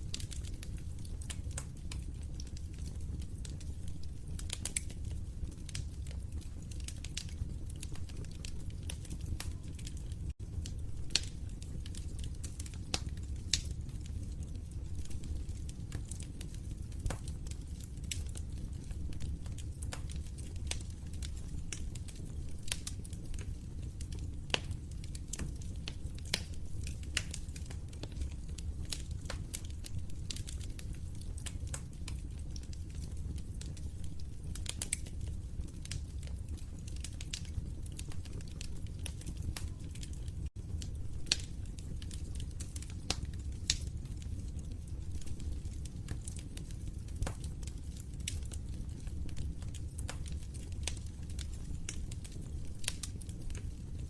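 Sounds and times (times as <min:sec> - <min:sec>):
fireplace fire crackling and popping: 0:00.0 - 0:54.0.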